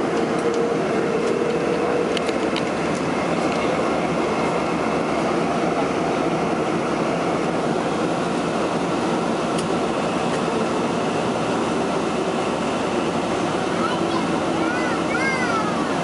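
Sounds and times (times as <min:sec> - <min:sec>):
jet engines at takeoff thrust: 0:00.0 - 0:16.0
wheels rumbling on runway: 0:00.0 - 0:16.0.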